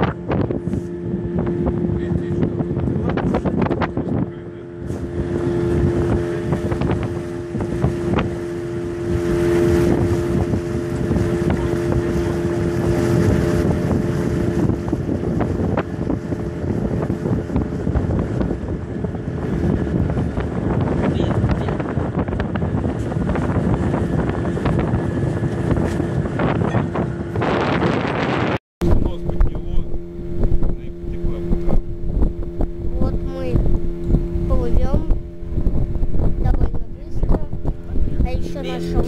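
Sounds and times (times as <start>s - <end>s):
boat motor humming: 0.0s - 39.0s
wind buffeting microphone: 0.0s - 39.0s.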